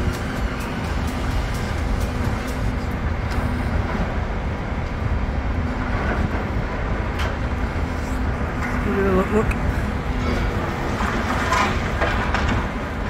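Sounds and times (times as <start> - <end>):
diesel engine rumble: 0.0 - 13.0.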